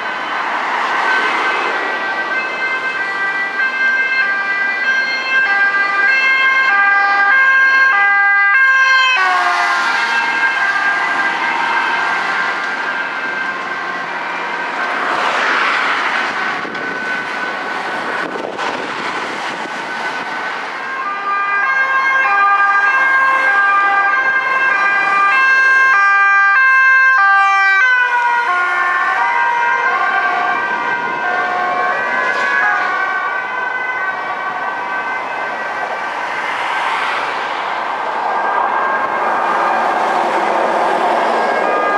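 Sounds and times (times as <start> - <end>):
road traffic: 0.0 - 41.9
two-tone police siren: 0.0 - 41.9.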